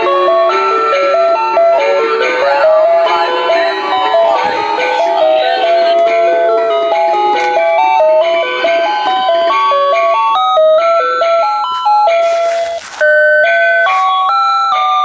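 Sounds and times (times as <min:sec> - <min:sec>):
electronic beeping christmas tune: 0:00.0 - 0:15.0.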